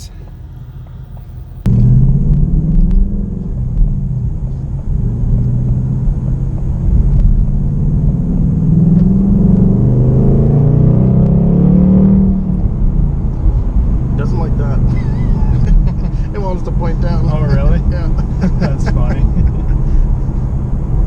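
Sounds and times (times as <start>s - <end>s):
car engine low rumble: 0.0s - 21.0s.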